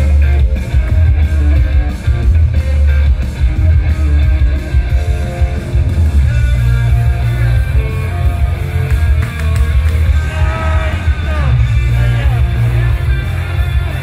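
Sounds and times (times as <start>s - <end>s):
heavy pulsing bass beat: 0.0s - 14.0s
pop-rock music over sound system: 0.0s - 14.0s
strummed electric guitar: 0.0s - 14.0s.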